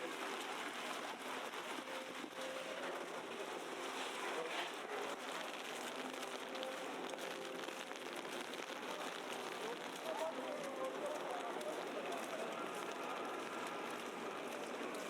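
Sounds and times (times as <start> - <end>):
background murmur: 0.0 - 15.0
wet snow falling and dripping: 0.0 - 15.0.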